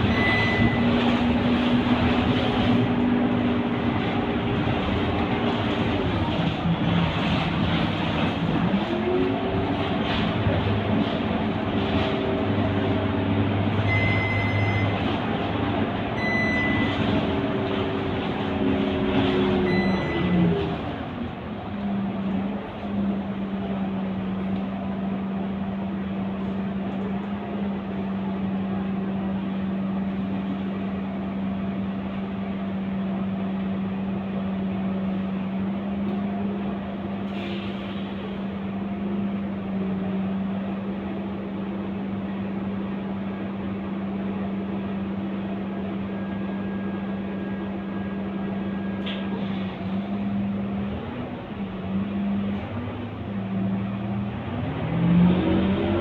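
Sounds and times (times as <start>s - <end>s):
bus drivetrain droning hum: 0.0s - 56.0s.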